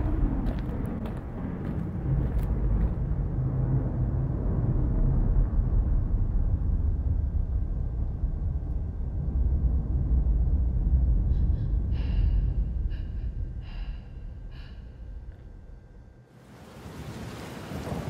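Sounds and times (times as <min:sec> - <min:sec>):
deep low rumble: 0:00.0 - 0:16.3.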